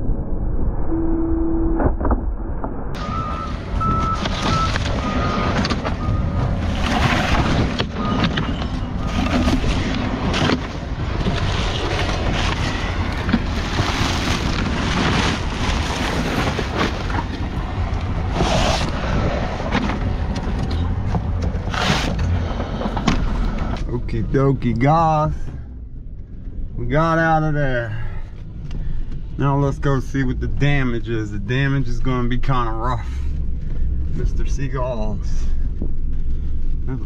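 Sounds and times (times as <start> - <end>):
engine and road noise: 0.0 - 37.0.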